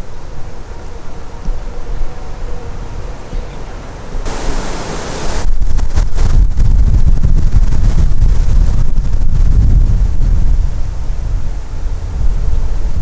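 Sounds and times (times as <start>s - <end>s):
wind buffeting microphone: 0.0s - 13.0s
wind rushing through trees: 0.0s - 13.0s.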